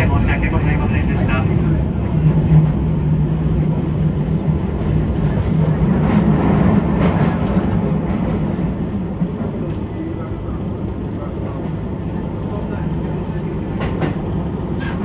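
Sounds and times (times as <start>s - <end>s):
electric train running on rails: 0.0s - 15.0s.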